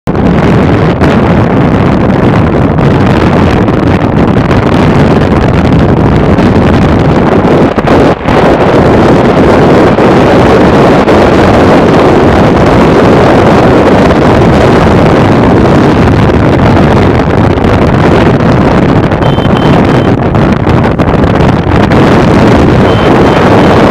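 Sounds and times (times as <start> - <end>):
wind rushing over microphone: 0.0 - 23.9
motorcycle engine running: 0.1 - 23.9.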